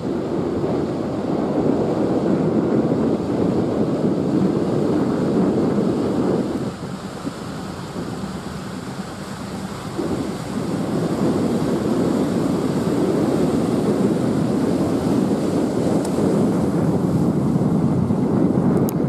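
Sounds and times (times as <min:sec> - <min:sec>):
low ship rumble: 0:00.0 - 0:19.0
ship bow wave rushing water: 0:00.0 - 0:19.0.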